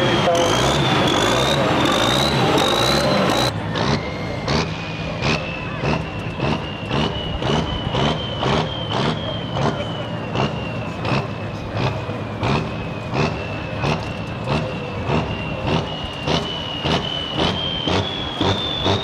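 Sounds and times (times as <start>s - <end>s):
high turbo whine: 0.0s - 19.0s.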